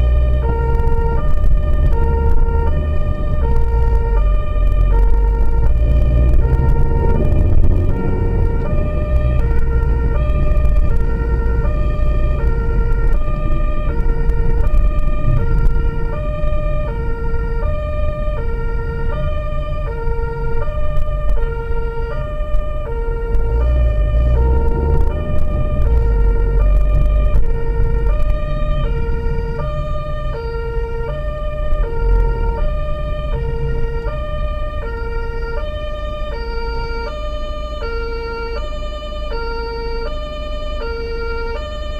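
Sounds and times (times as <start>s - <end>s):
engine and road rumble: 0.0s - 41.9s
two-tone emergency siren: 0.0s - 41.9s.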